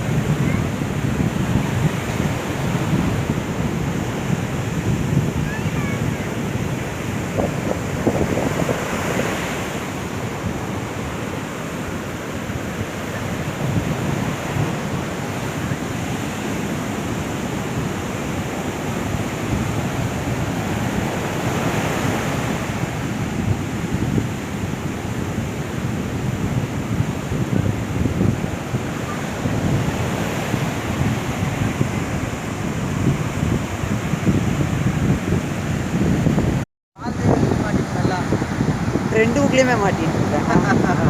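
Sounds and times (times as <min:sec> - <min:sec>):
surf washing on beach: 0:00.0 - 0:41.0
wind buffeting microphone: 0:00.0 - 0:41.0.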